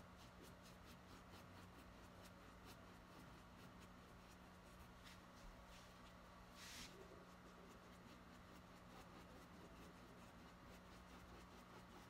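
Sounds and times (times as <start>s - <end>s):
low steady hum: 0.0s - 12.0s
paintbrush scratching on canvas: 0.0s - 12.0s.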